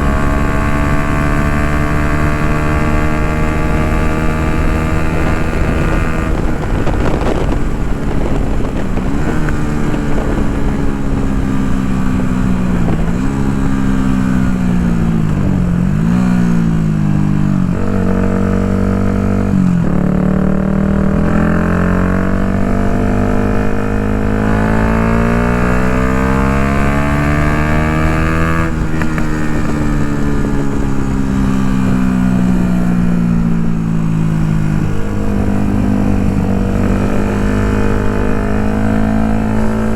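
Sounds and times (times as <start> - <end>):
motorcycle engine changing gears: 0.0 - 39.9.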